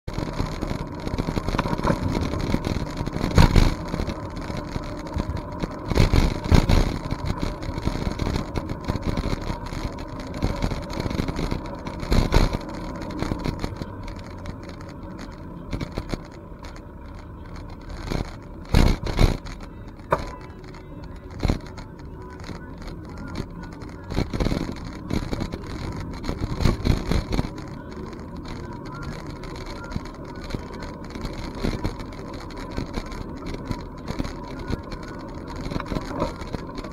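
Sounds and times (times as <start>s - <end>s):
bicycle knocks and rattles: 0.1s - 36.9s
wind and rumble on microphone: 0.1s - 36.9s.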